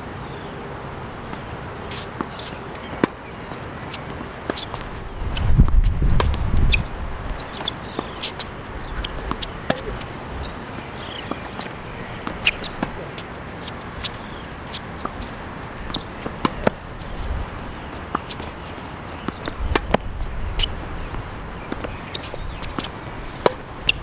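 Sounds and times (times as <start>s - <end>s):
shoe squeaks: 1.9s - 24.0s.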